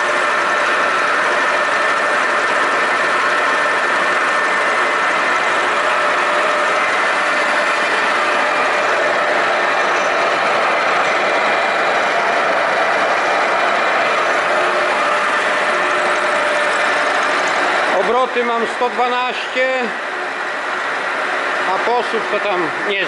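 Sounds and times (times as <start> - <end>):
milling machine cutting steel: 0.0 - 23.0.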